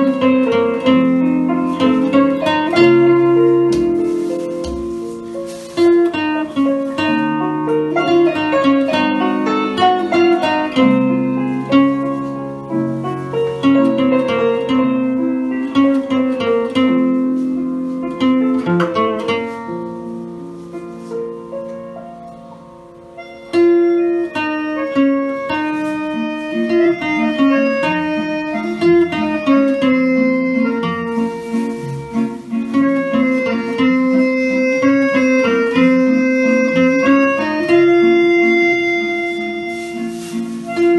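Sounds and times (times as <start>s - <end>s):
solo acoustic guitar melody: 0.0s - 40.9s.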